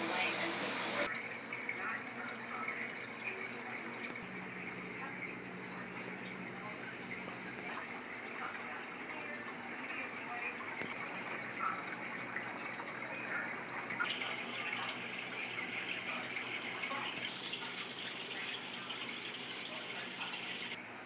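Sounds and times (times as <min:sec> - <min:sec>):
running water rushing: 0:00.0 - 0:20.8.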